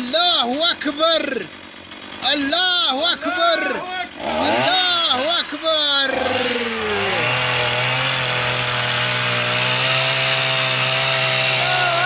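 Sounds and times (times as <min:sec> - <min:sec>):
chainsaw sawing: 0:00.0 - 0:12.0.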